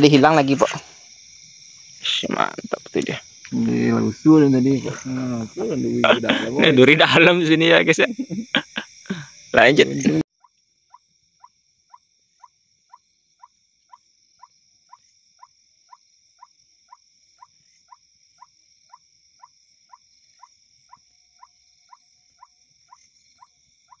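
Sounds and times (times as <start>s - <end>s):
frog calling: 0.0s - 24.0s
insects chorus: 0.0s - 24.0s.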